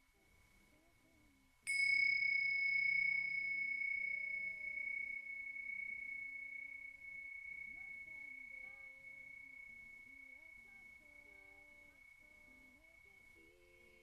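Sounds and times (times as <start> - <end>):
faint low melodic line: 0.0 - 14.0
small metal bell ringing: 1.7 - 14.0.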